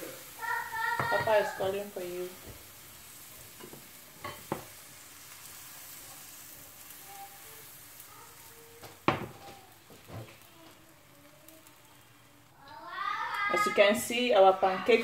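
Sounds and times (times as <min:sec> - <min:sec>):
batter sizzling in frying pan: 0:00.0 - 0:15.0.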